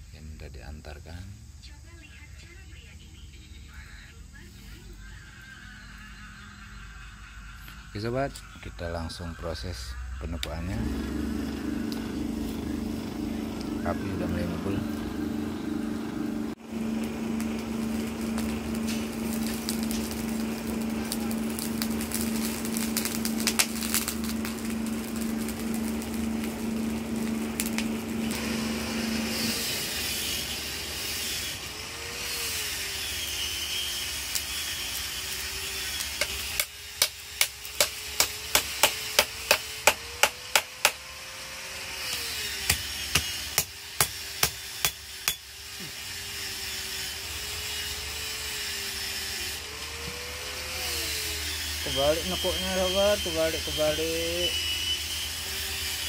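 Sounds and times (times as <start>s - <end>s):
blower motor humming: 4.3s - 56.0s.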